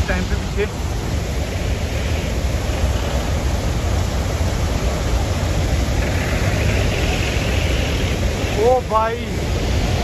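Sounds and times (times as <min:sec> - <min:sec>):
flooded river rushing: 0:00.0 - 0:10.0.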